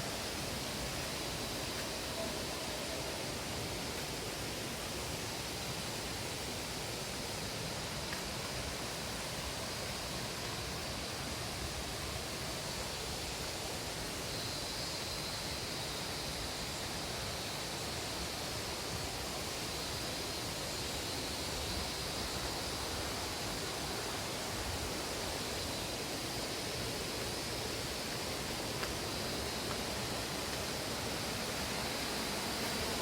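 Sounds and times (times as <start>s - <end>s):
waterfall rushing over rocks: 0.0s - 33.0s.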